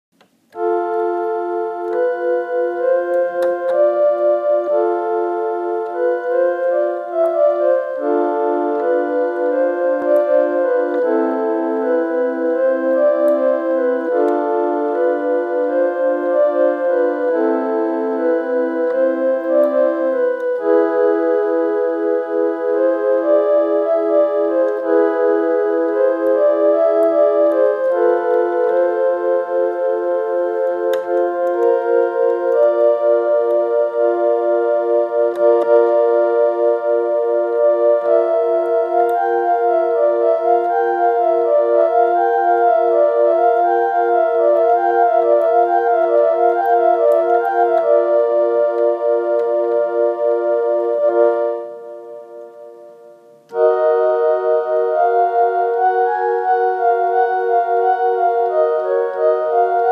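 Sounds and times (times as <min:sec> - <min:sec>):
electronic keyboard organ tune: 0:00.1 - 0:59.9.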